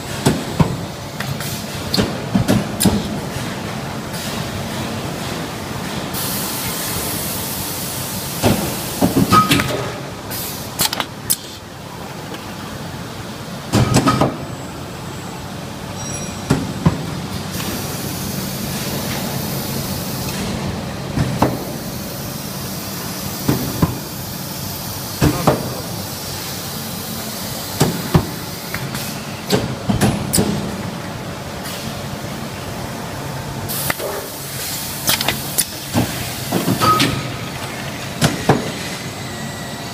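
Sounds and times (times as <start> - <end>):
steady factory hum: 0.0 - 39.9.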